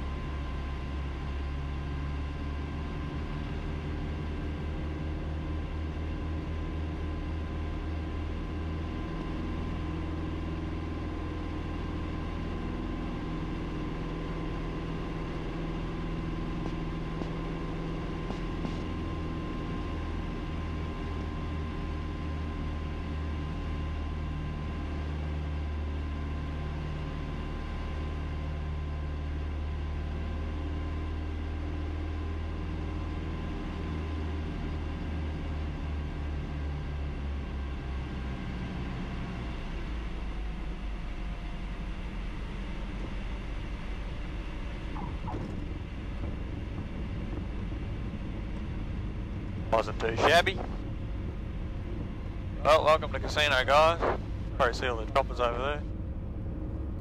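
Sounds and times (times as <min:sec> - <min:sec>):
aircraft engines and propellers droning: 0:00.0 - 0:57.0.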